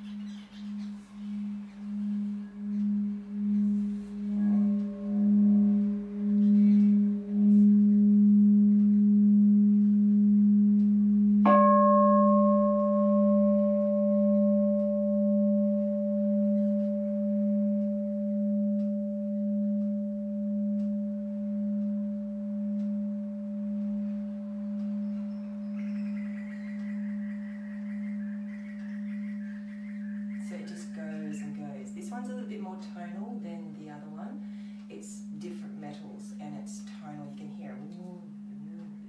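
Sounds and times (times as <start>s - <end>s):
singing bowl humming: 0.0s - 39.0s
singing bowl struck ringing: 0.2s - 39.0s.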